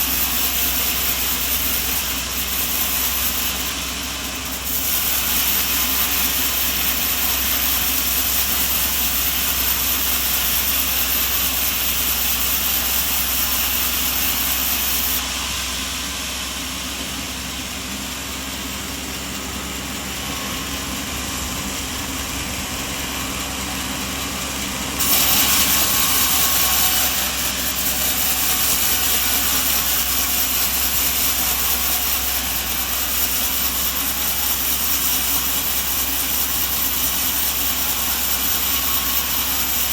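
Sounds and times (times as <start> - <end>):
loud running machinery: 0.0 - 39.9.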